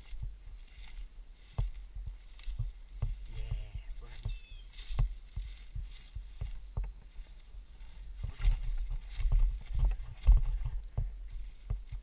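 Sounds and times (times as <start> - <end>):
wind buffeting microphone: 1.3 - 12.0.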